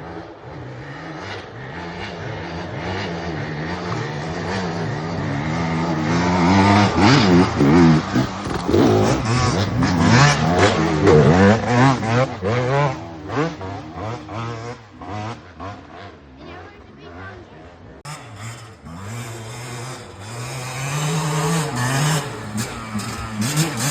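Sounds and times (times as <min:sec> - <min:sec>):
dirt bike engine revving: 0:00.0 - 0:17.3, 0:18.1 - 0:23.9.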